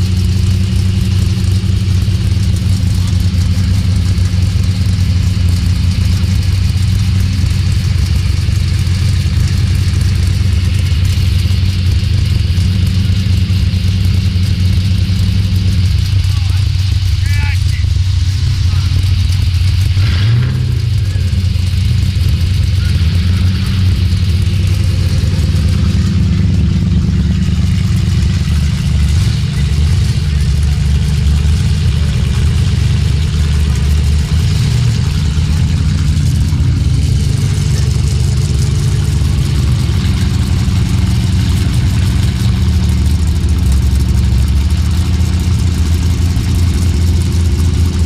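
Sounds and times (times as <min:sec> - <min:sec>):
engines idling with low rumble: 0:00.0 - 0:48.0.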